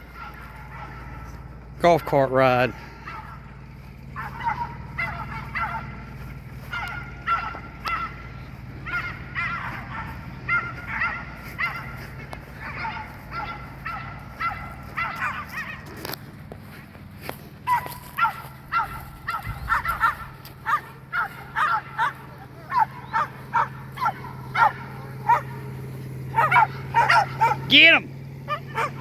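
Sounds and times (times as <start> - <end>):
dogs yipping and whining: 0.0 - 1.5, 2.9 - 16.9, 17.5 - 29.0
golf cart humming: 0.0 - 29.0.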